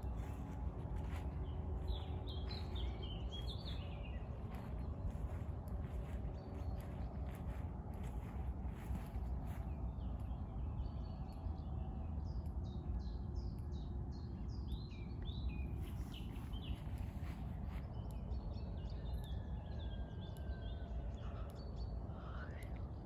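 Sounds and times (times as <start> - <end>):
low background rumble: 0.0 - 23.0
songbirds chirping and singing: 0.0 - 23.0.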